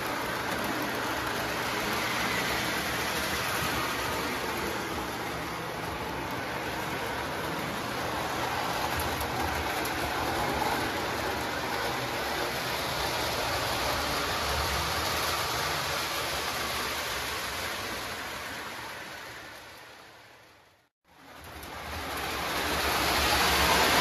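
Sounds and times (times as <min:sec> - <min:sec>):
model trains rumbling on track: 0:00.0 - 0:20.5, 0:21.1 - 0:24.0.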